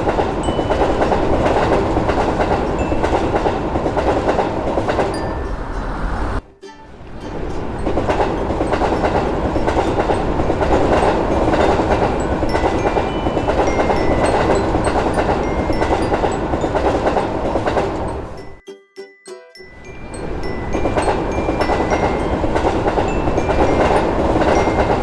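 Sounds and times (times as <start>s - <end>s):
train wheels rumbling on track: 0.0s - 6.4s, 7.4s - 18.4s, 20.4s - 25.0s.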